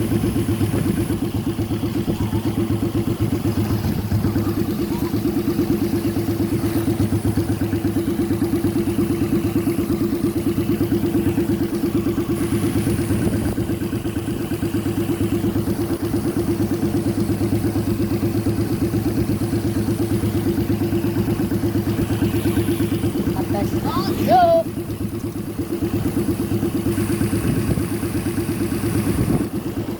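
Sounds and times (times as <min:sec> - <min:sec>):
engine idling: 0:00.0 - 0:29.9.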